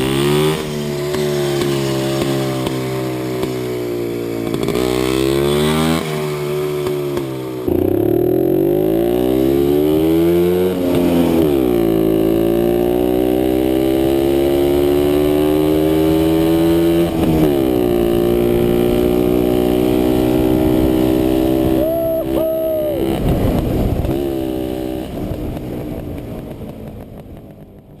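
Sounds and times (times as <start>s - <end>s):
two-stroke motorcycle accelerating: 0.0s - 28.0s.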